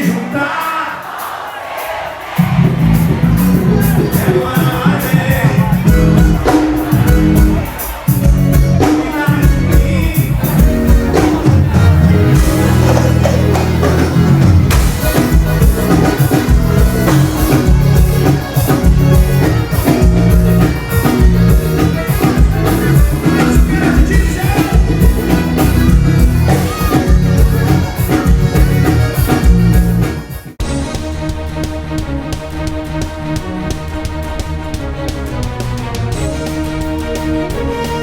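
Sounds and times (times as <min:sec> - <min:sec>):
band music with singing: 0:00.0 - 0:38.0.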